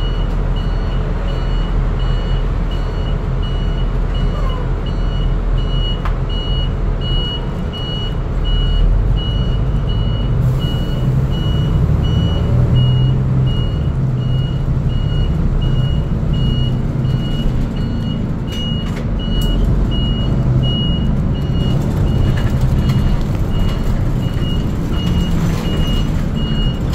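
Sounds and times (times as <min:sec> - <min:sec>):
bus engine running: 0:00.0 - 0:26.9.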